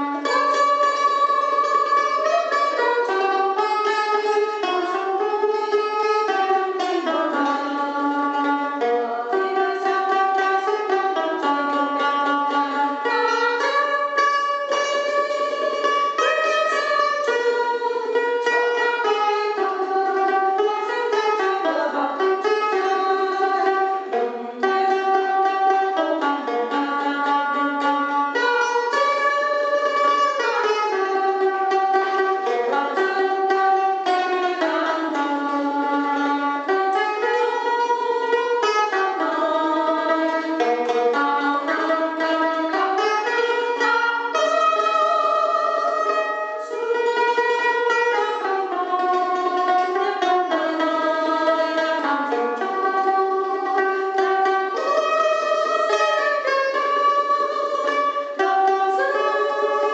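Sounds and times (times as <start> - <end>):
mandolin tremolo melody: 0.0 - 59.9.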